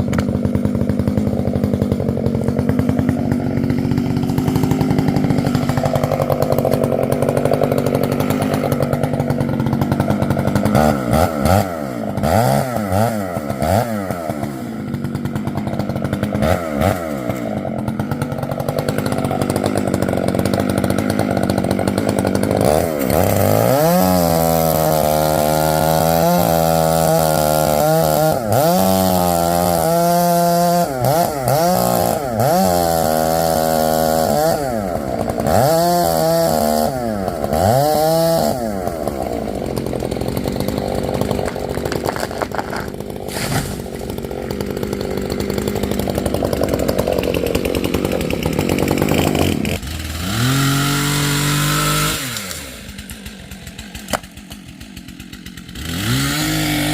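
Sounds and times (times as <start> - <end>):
chainsaw cutting wood: 0.0 - 56.9
chainsaw engine revving: 0.0 - 56.9.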